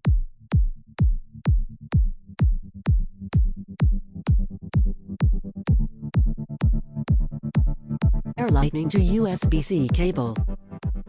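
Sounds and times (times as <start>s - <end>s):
kick drum: 0.0s - 11.0s.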